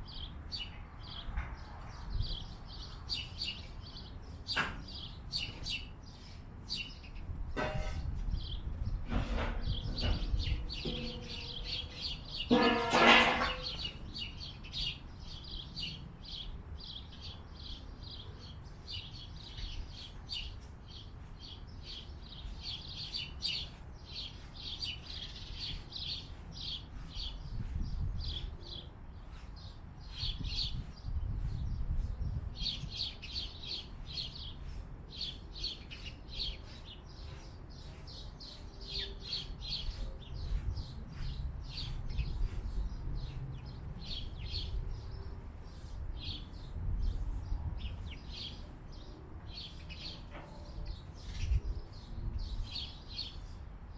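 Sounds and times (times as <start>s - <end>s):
small birds chirping: 0.0s - 12.8s, 13.4s - 53.9s.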